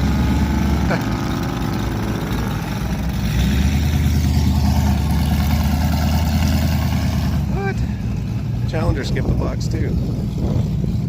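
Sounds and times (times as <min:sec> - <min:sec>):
loud car engine drone: 0:00.0 - 0:11.0.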